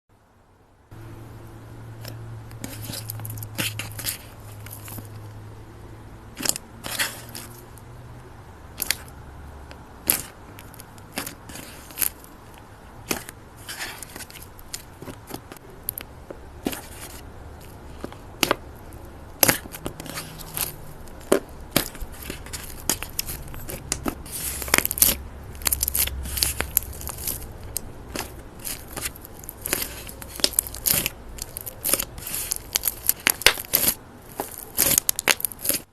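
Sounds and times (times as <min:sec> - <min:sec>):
low steady hum: 0:00.1 - 0:35.9
brittle crackling and crunching: 0:02.0 - 0:05.2, 0:06.3 - 0:07.9, 0:08.8 - 0:09.1, 0:10.0 - 0:35.9.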